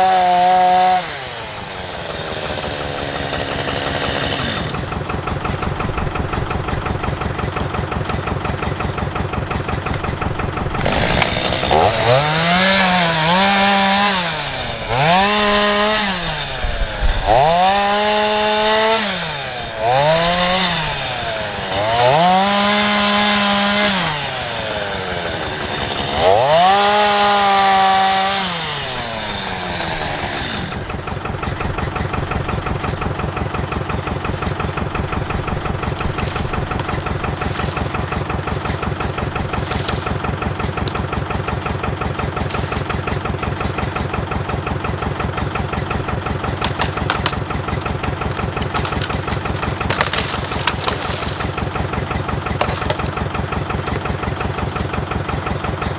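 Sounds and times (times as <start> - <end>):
chainsaw revving and cutting wood: 0.0 - 55.9.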